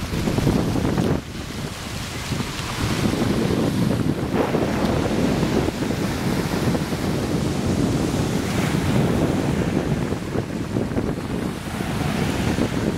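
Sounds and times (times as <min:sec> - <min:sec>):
waves washing up a beach: 0:00.0 - 0:12.9
wind buffeting the microphone: 0:00.0 - 0:12.9.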